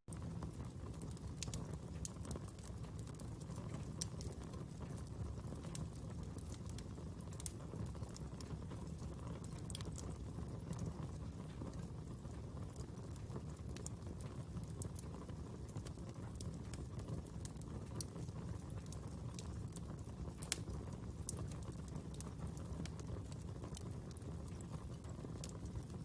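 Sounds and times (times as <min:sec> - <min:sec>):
fire crackling and popping: 0:00.1 - 0:26.0.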